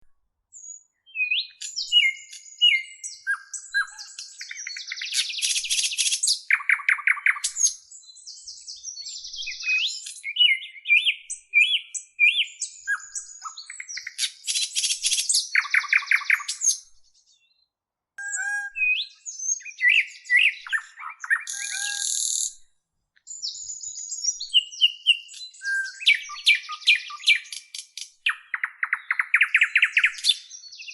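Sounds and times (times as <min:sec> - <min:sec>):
songbirds singing: 0:00.5 - 0:30.9.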